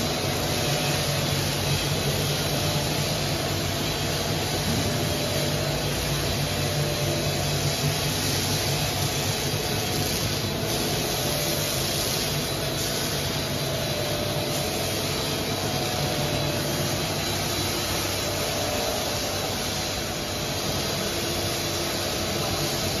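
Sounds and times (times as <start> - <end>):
machine humming and hissing: 0.0 - 23.0.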